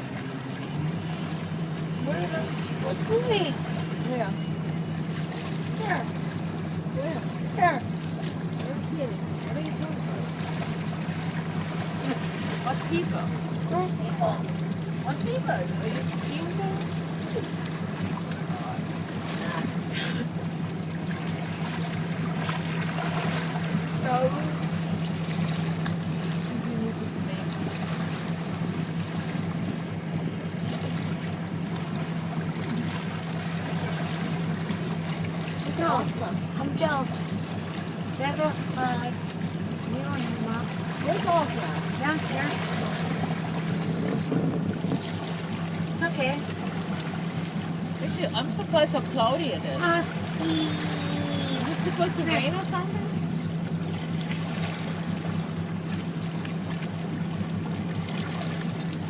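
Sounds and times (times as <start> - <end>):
motorboat engine drone: 0.0 - 59.0
water rushing along hull: 0.0 - 59.0.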